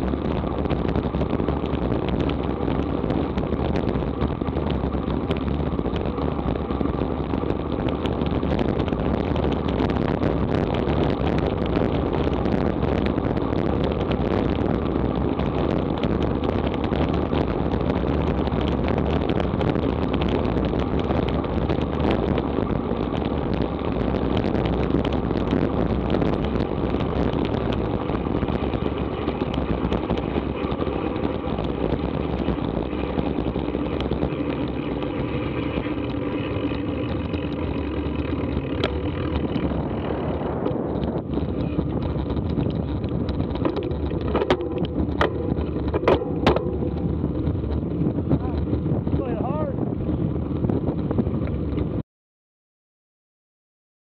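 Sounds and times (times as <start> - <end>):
wind noise on microphone: 0.0 - 52.0.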